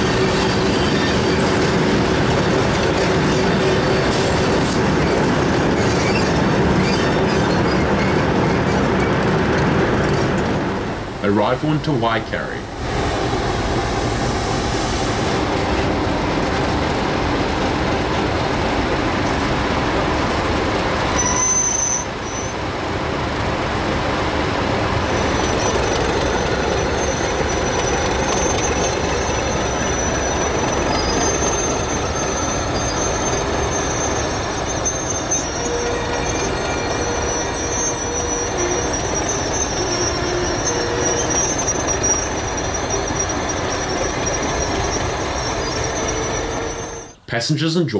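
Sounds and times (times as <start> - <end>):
wheels squealing on rails: 0.0 - 11.2, 12.8 - 23.0, 24.0 - 47.2
diesel locomotive rumble: 0.0 - 47.4.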